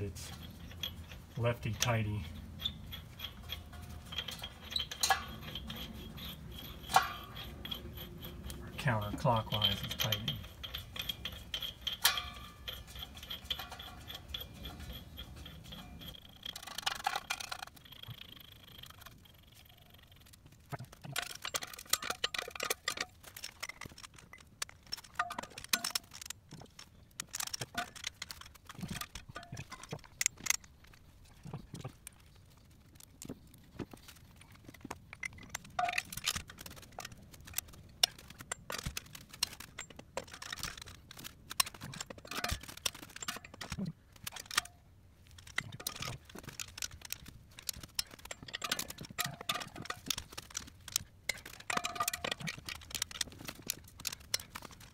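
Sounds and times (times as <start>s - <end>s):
lug nuts and wrench clinking: 0.0s - 32.3s, 32.9s - 54.9s.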